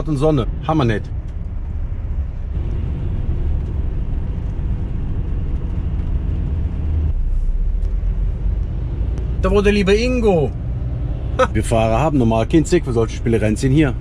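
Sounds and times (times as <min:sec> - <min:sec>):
truck engine and tyres rumbling: 0:00.0 - 0:14.0.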